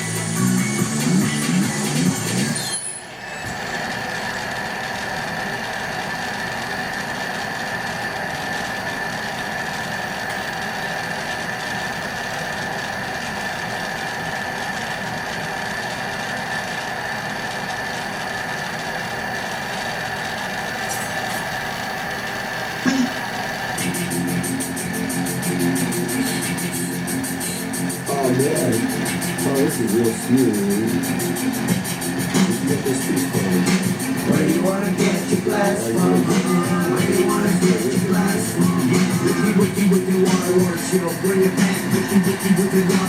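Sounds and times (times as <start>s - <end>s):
torch roaring hiss: 0.0s - 43.0s.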